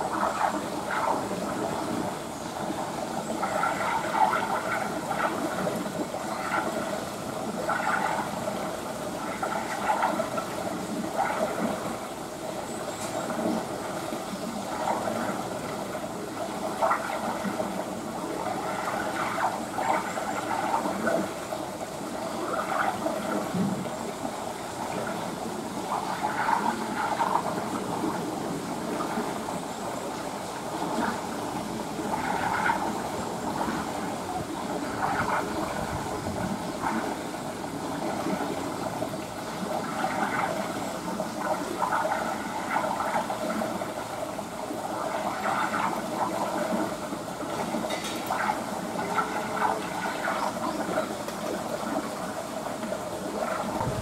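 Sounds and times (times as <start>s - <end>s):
water running and splashing: 0.0s - 54.0s.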